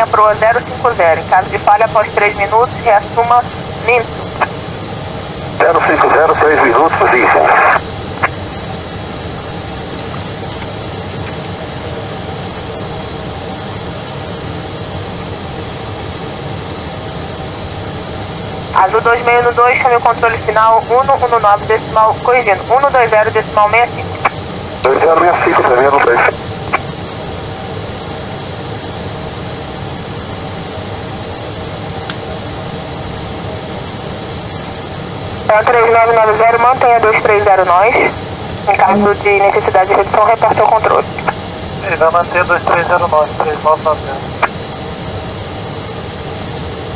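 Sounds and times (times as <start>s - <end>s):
airliner engine drone: 0.0s - 46.9s
faint hum: 0.0s - 46.9s.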